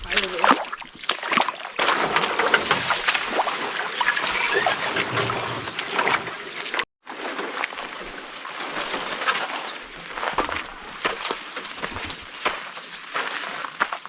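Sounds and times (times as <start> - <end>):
creek water flowing: 0.0 - 6.8, 7.4 - 13.7
water splashing from wading: 0.0 - 13.4.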